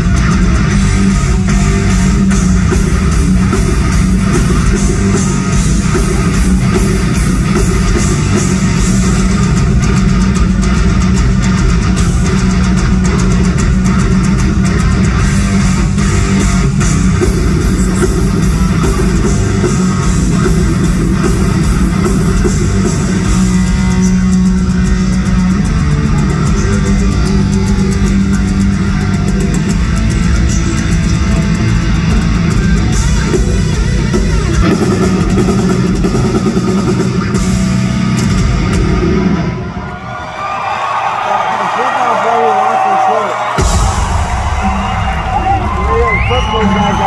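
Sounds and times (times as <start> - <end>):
drum kit: 0.0 - 39.7, 42.6 - 47.0
bass guitar: 0.0 - 39.9, 43.0 - 47.0
distorted electric guitars: 0.0 - 40.0, 42.5 - 47.0.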